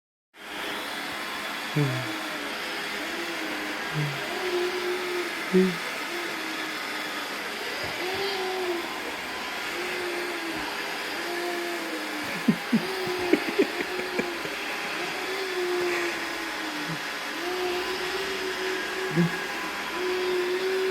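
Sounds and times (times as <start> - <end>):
robot vacuum whirring: 0.5 - 20.9.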